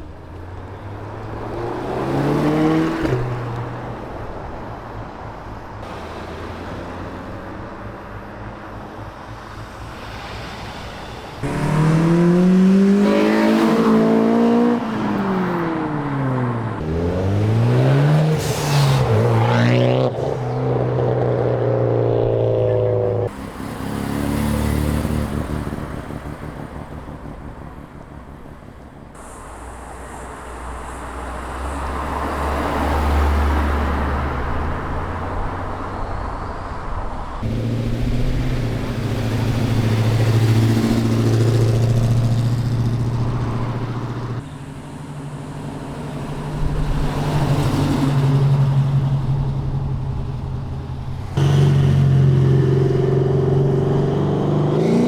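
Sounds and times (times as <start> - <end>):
cars driving away: 0.0 - 55.0.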